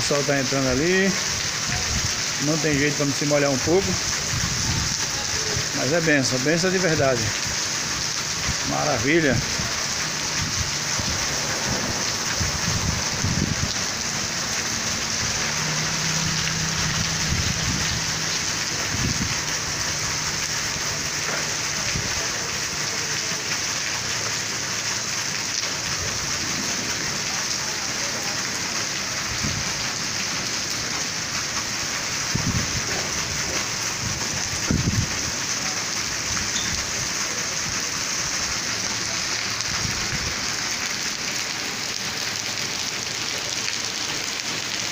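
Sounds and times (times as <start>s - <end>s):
heavy rain on ground: 0.0s - 44.9s.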